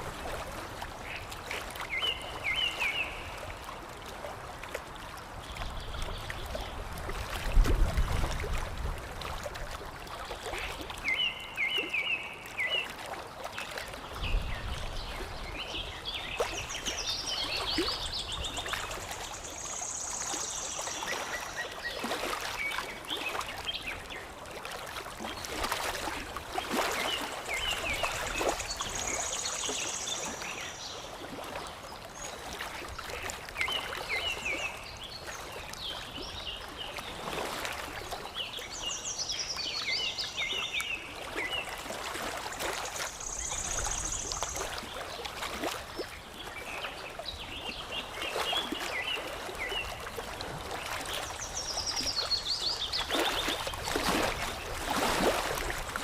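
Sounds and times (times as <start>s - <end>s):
water lapping and trickling: 0.0s - 56.0s.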